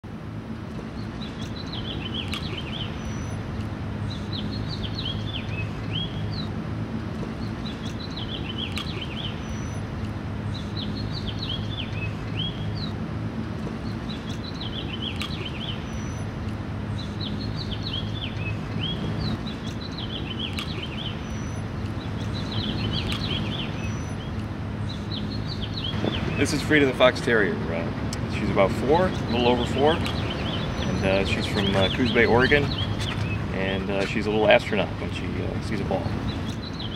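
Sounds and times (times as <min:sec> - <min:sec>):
constant low hum: 0:00.0 - 0:36.9
birds chirping: 0:00.6 - 0:36.9.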